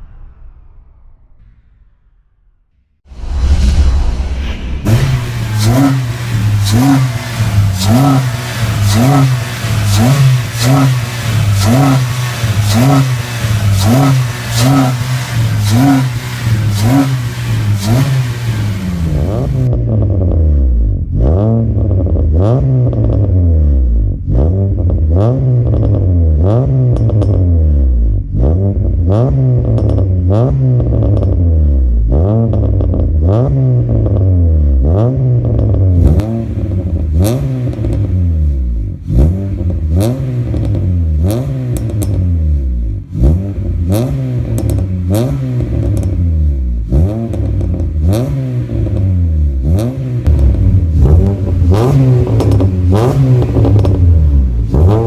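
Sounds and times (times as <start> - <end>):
car engine revving: 3.1 - 55.0.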